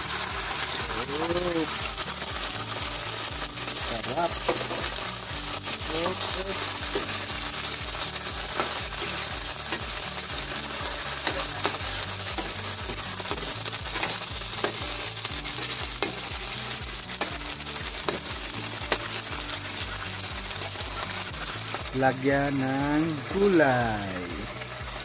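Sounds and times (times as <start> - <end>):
fish sizzling in a frying pan: 0.0 - 25.0.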